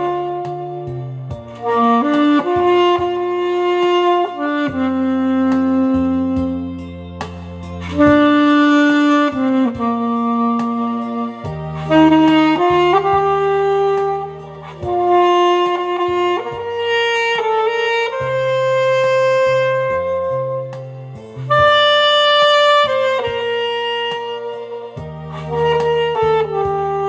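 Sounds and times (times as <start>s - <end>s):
alto saxophone melody: 0.0s - 27.0s
bass line accompaniment: 0.0s - 27.0s.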